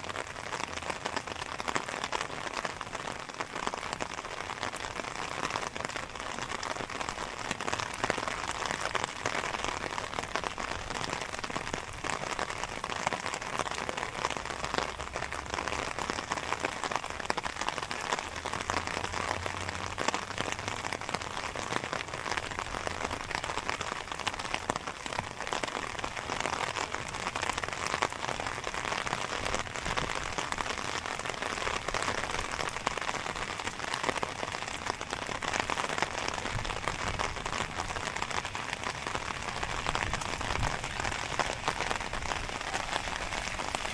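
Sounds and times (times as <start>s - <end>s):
steady rain patter: 0.0s - 43.9s.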